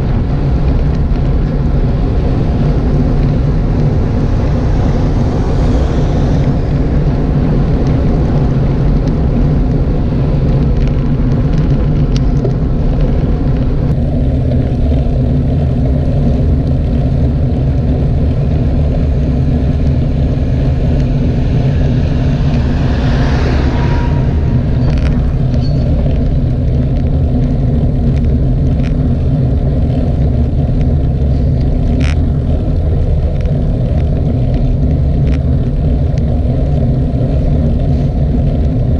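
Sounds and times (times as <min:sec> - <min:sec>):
bike tyres on tarmac: 0:00.0 - 0:38.9
tractor with trailer passing: 0:00.0 - 0:38.9
wind rumble on microphone: 0:00.0 - 0:38.9.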